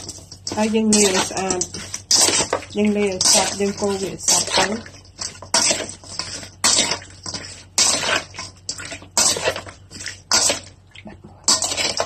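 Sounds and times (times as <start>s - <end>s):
metal spoon stirring in steel bowl: 0.0s - 12.0s.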